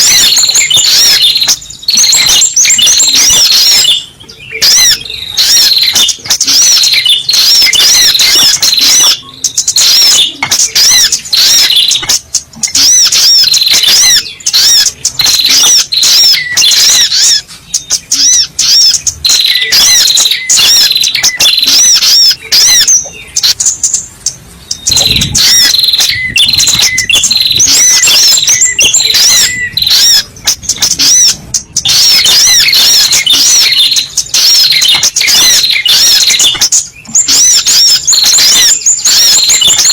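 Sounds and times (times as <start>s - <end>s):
high-pitched bird lure chirps: 0.0s - 39.9s.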